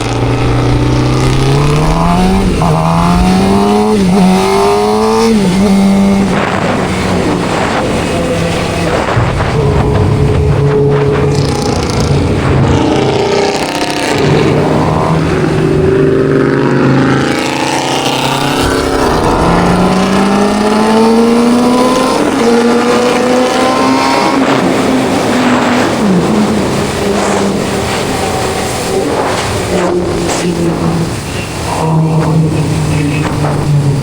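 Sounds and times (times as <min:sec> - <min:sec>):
motorcycle engine accelerating hard: 0:00.0 - 0:34.0
wind noise: 0:00.0 - 0:34.0.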